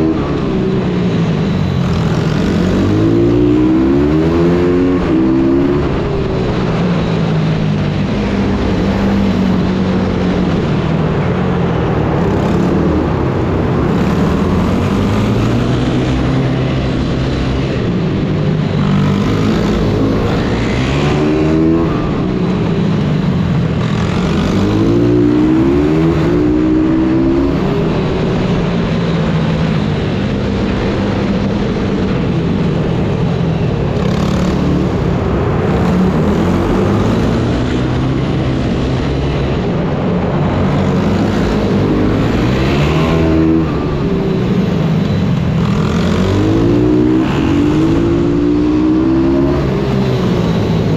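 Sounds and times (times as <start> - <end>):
pit bike engines revving: 0.0 - 50.9.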